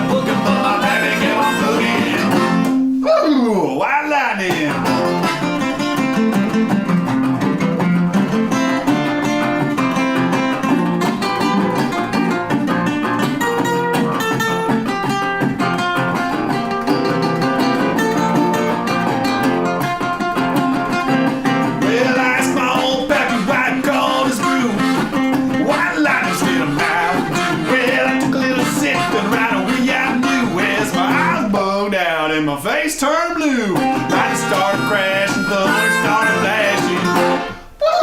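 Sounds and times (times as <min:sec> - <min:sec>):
band playing instrumental: 0:00.0 - 0:03.0, 0:04.5 - 0:31.3, 0:33.8 - 0:37.7
electric guitar: 0:00.0 - 0:03.2, 0:04.5 - 0:31.7, 0:33.6 - 0:38.0.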